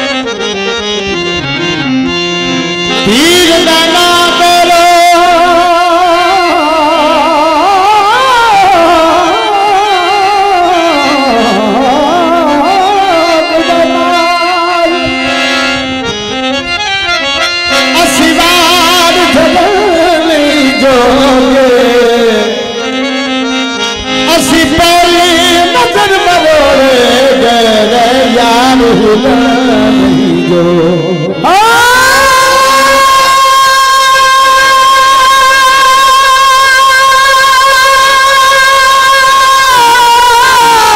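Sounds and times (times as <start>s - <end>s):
instrumental accompaniment with drone: 0.0s - 40.9s
man singing over pa: 2.9s - 15.8s, 17.7s - 40.9s.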